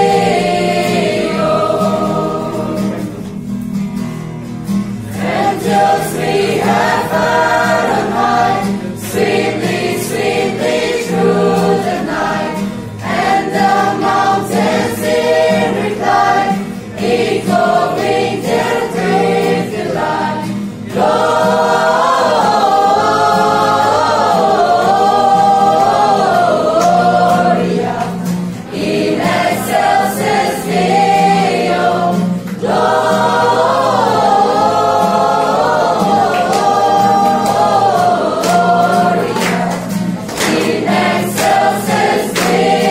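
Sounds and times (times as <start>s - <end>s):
young voices singing a carol: 0.0s - 3.2s, 5.0s - 42.9s
acoustic guitar: 0.0s - 42.9s.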